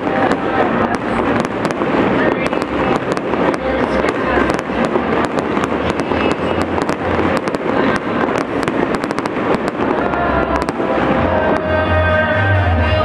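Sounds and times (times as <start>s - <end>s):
fireworks cracks and pops: 0.0s - 11.7s
low rumble of explosions: 0.0s - 11.8s.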